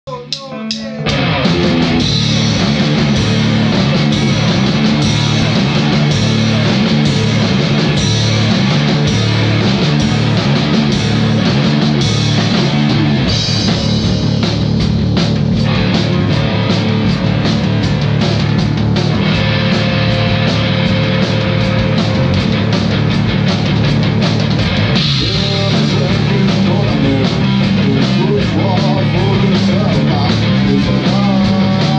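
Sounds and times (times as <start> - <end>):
drum kit playing along: 0.1 - 31.9
heavy rock song: 0.1 - 31.9.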